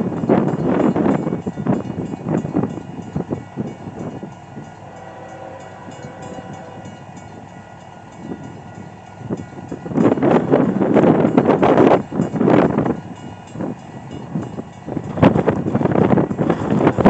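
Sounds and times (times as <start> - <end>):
train rumbling past: 0.0 - 17.0
wind buffeting microphone: 0.0 - 17.0.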